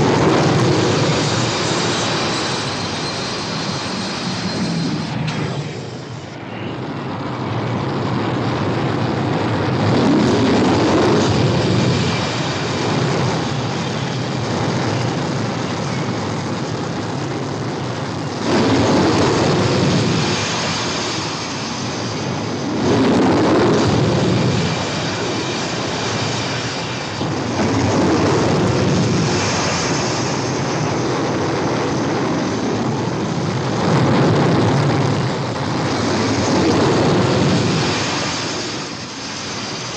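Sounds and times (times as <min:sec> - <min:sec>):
jet engines roaring and whining: 0:00.0 - 0:39.9.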